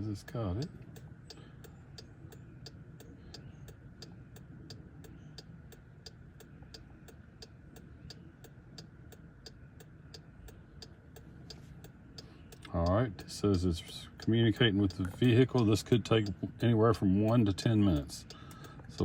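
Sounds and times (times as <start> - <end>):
hazard light flasher ticking: 0.0 - 19.0
low steady hum: 0.0 - 19.0.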